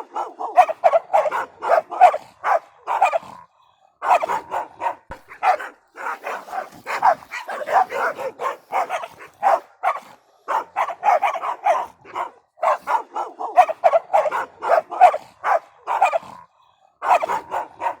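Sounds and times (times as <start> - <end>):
dogs barking: 0.0 - 18.0.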